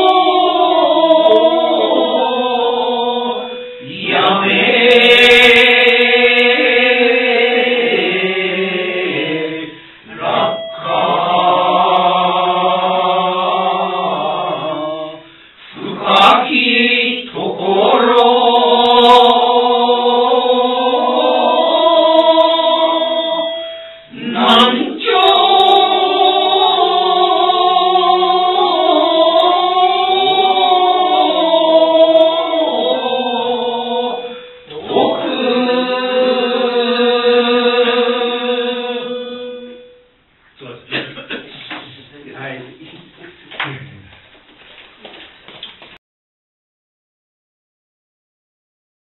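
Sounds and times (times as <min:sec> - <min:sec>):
group chanting in unison: 0:00.0 - 0:39.7.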